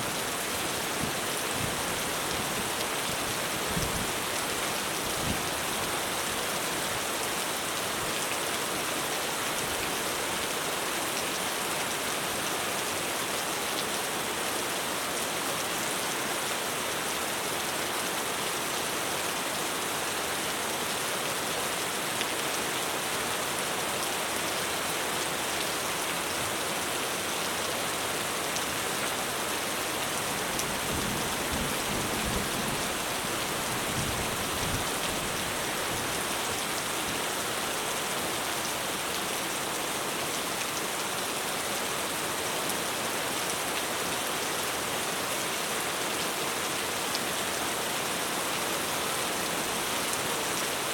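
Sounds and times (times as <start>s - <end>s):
heavy rain on a roof: 0.0s - 50.9s.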